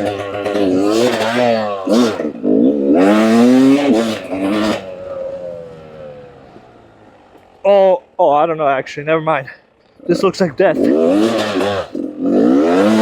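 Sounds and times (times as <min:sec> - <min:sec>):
dirt bike engine revving: 0:00.0 - 0:07.7, 0:09.9 - 0:13.0.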